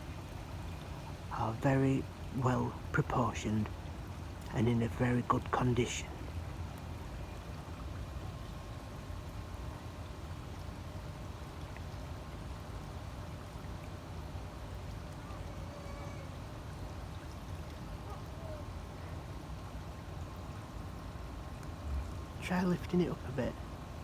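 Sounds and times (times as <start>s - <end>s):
small stream flowing: 0.0s - 24.0s.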